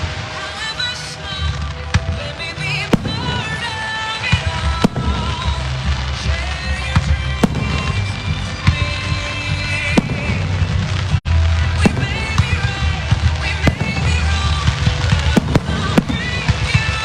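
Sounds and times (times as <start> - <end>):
fireworks bursting with bangs: 0.0 - 17.0.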